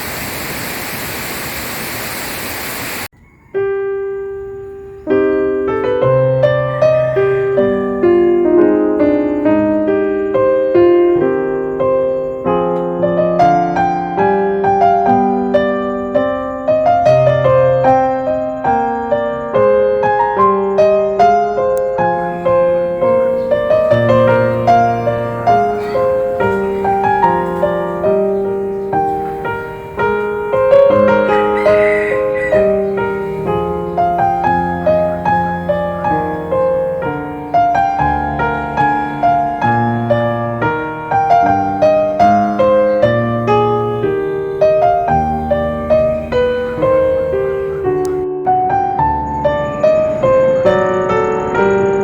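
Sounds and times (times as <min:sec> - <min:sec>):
solo piano music: 0:00.0 - 0:52.0.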